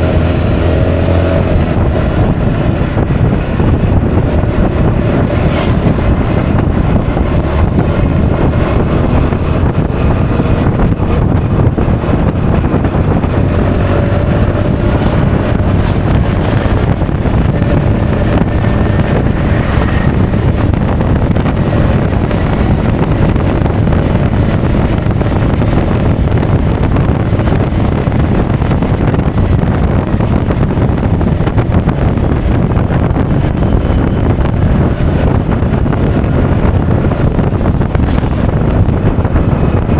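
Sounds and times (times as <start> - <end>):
road noise: 0.0 - 39.9
scooter engine: 0.0 - 39.9
wind rush on microphone: 0.0 - 39.9.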